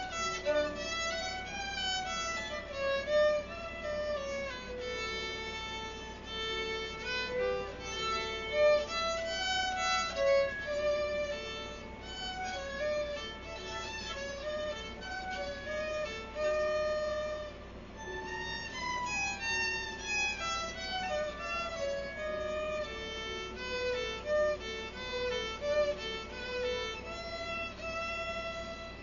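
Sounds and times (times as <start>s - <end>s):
solo violin melody: 0.0s - 29.0s.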